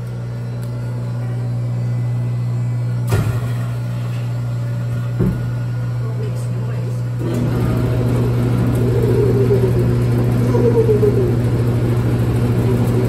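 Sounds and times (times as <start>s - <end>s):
vending machine humming: 0.0s - 13.0s.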